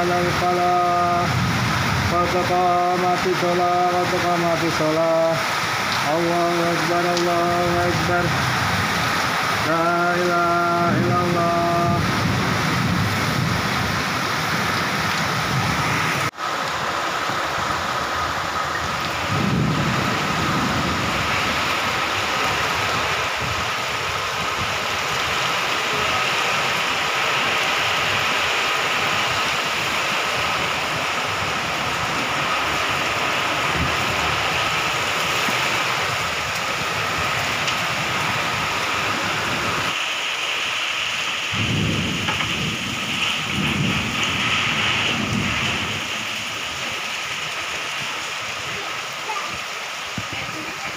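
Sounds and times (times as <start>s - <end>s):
low thunder rumbles: 0.0s - 16.3s, 17.5s - 39.9s, 41.5s - 49.1s
heavy rain downpour: 0.0s - 50.9s.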